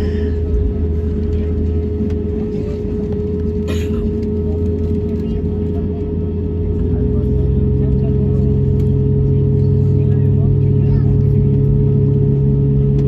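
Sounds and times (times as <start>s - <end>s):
constant hum: 0.0s - 13.0s
jet engine drone in cabin: 0.0s - 13.0s.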